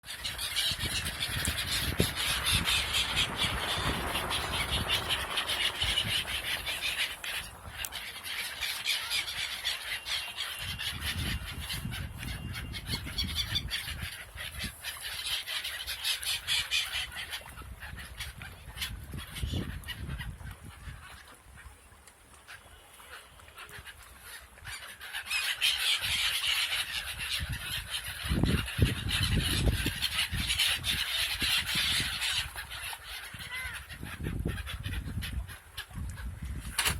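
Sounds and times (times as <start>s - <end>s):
birds calling: 0.0s - 36.9s.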